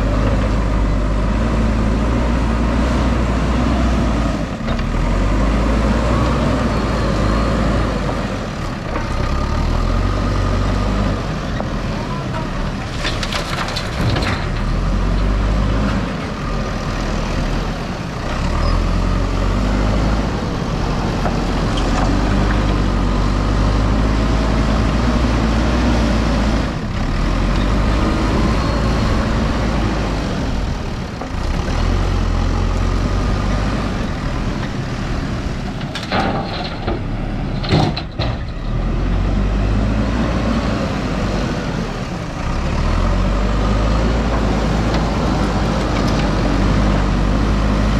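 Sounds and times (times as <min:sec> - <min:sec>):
diesel engine revving: 0:00.0 - 0:47.9.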